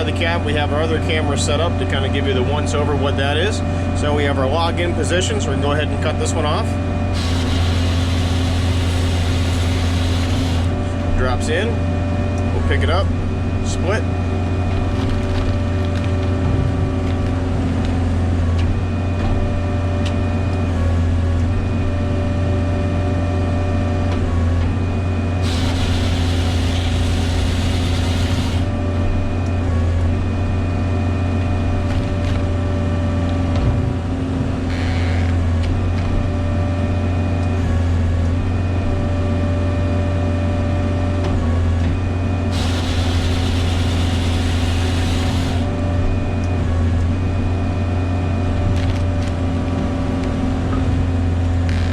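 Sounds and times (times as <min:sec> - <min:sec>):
diesel engine running: 0:00.0 - 0:34.7, 0:35.4 - 0:51.6.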